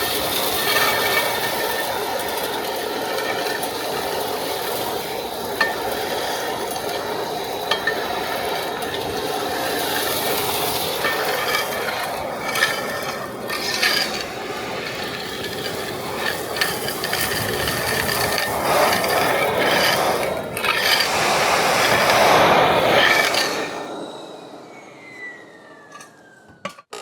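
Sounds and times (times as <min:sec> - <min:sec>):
metal chips rattling through hose: 0:00.0 - 0:23.6
industrial vacuum running: 0:00.0 - 0:26.8.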